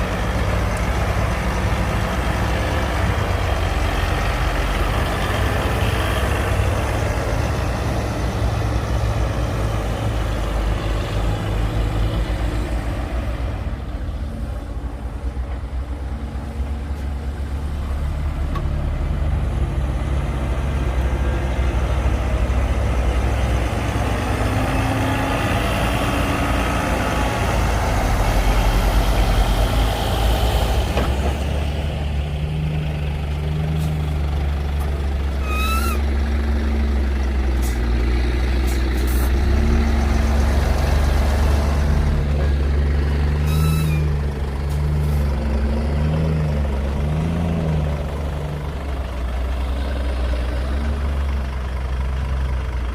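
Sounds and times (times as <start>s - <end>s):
heavy diesel engines droning: 0.0s - 52.9s.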